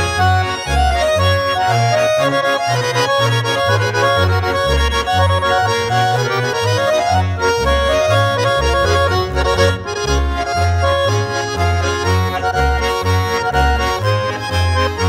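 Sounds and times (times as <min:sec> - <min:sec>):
accordion folk tune: 0:00.0 - 0:15.0
bouncing bass: 0:00.0 - 0:15.0.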